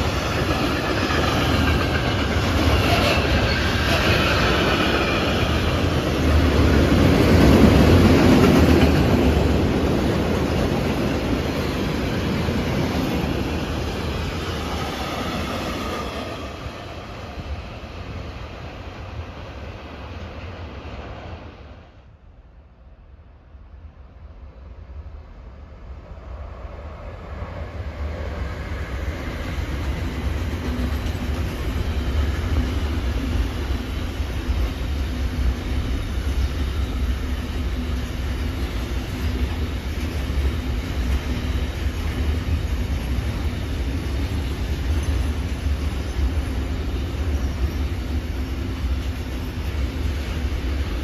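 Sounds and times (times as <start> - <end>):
freight train rolling past: 0.0 - 51.0.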